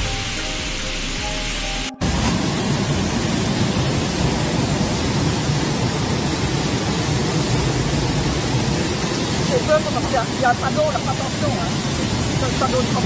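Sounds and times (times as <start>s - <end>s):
roar of rushing floodwater: 0.0s - 13.0s.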